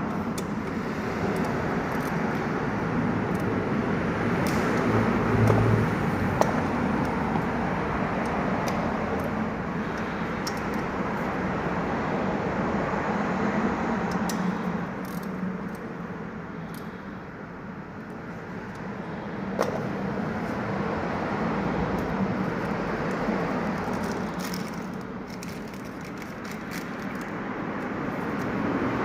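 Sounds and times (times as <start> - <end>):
road and tyre noise: 0.0 - 29.0.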